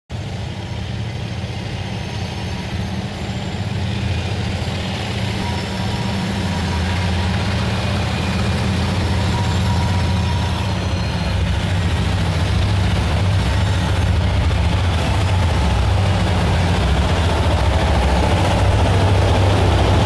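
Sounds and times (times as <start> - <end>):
diesel locomotive engines droning: 0.1 - 20.0.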